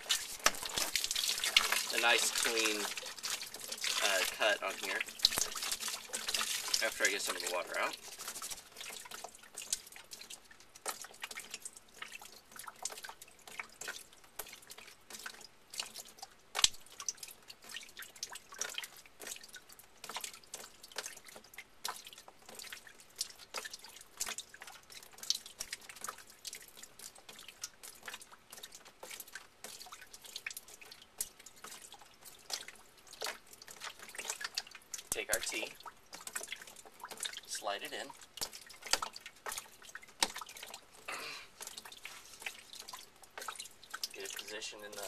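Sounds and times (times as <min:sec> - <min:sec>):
water dripping: 0:00.0 - 0:45.0.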